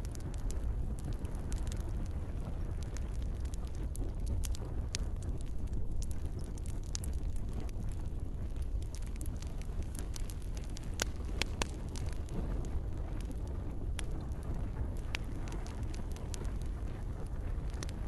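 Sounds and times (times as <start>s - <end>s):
campfire crackling and popping: 0.0s - 18.0s
gentle rain: 0.0s - 18.0s.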